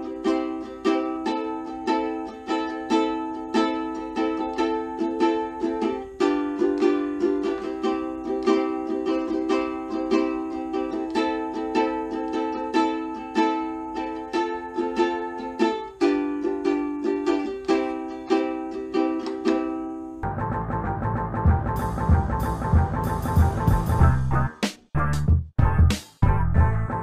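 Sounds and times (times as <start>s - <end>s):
ukulele strumming: 0.0s - 27.0s.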